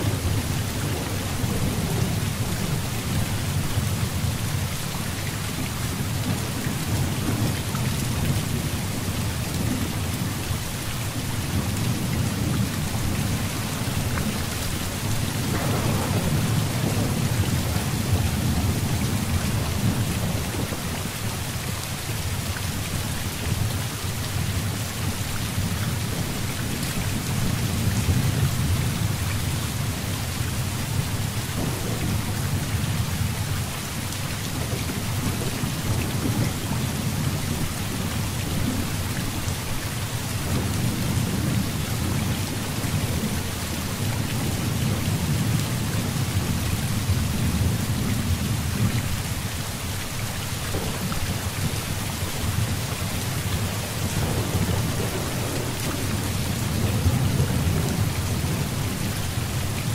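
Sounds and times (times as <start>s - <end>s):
low thunder rumbling: 0.0s - 4.7s, 11.1s - 21.7s, 22.7s - 39.3s, 40.2s - 49.2s, 50.7s - 59.9s
heavy rain falling: 0.0s - 59.9s.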